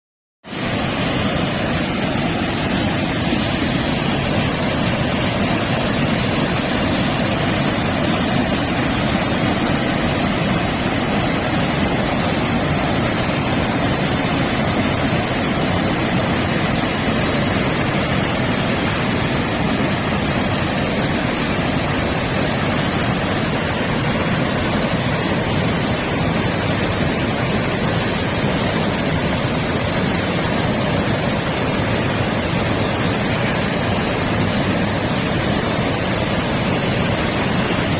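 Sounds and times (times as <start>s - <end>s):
waterfall rushing: 0.5s - 37.9s.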